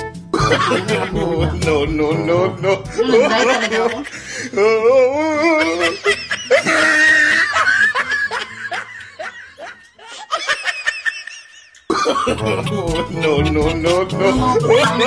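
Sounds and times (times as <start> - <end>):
person laughing: 0.4 - 15.0.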